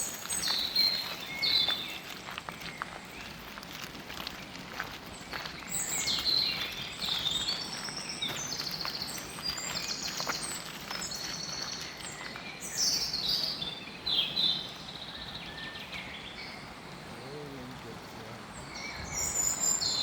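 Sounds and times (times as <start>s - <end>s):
songbirds singing: 0.0s - 20.0s
steady outdoor hiss: 0.0s - 20.0s.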